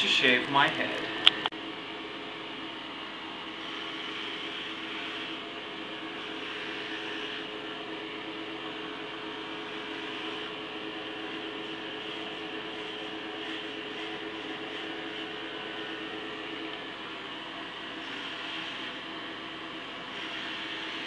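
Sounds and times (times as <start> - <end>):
electric hair clippers buzzing: 3.5 - 21.0.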